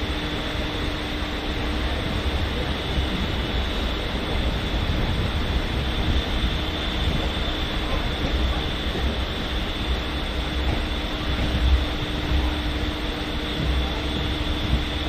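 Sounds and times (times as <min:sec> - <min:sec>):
high whine: 0:00.0 - 0:15.0
train wheels rumbling on rails: 0:00.0 - 0:15.0.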